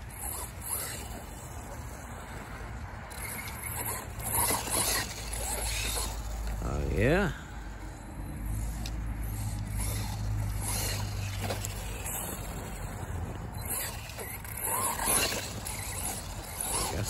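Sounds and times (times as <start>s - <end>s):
electric motor humming: 0.0s - 17.0s.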